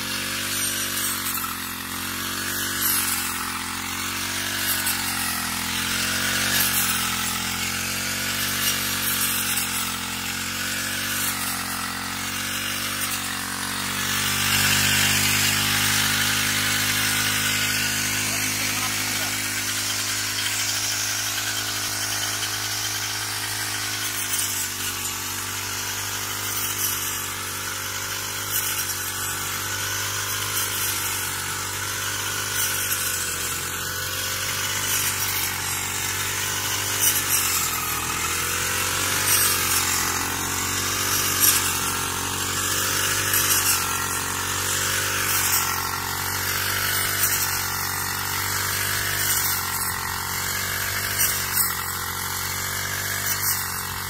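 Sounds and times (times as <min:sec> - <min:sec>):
brush cutter engine running: 0:00.0 - 0:54.0
blade crackling through stalks: 0:00.1 - 0:54.0.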